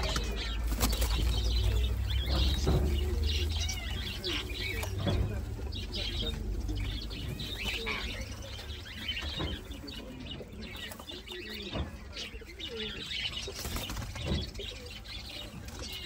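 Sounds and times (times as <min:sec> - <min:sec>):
parakeets chirping and squawking: 0:00.0 - 0:16.0.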